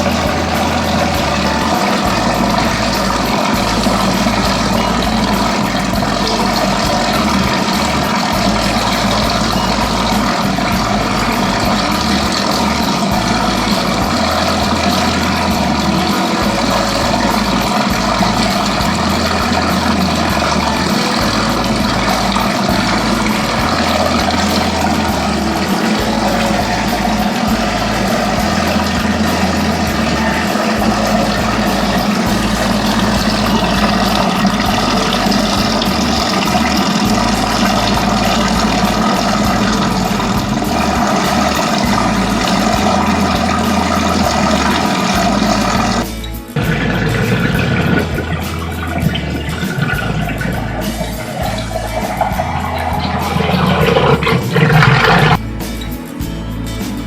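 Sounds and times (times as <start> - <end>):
dough mixer humming: 0.0 - 55.4.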